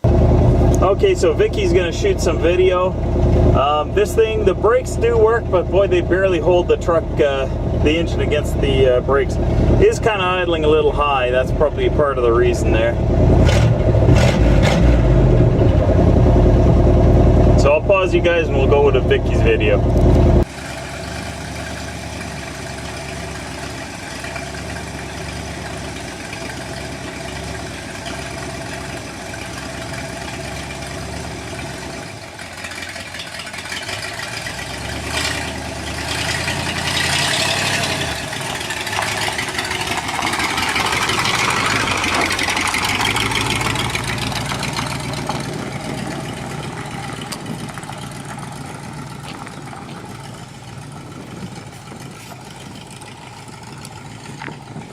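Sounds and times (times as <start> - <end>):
pickup engine idling: 0.0 - 54.9.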